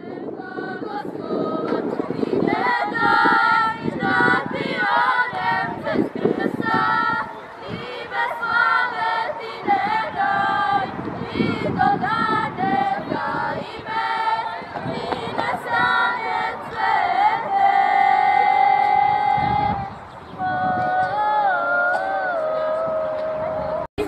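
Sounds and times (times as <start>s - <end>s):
girls and women singing: 0.0s - 23.9s.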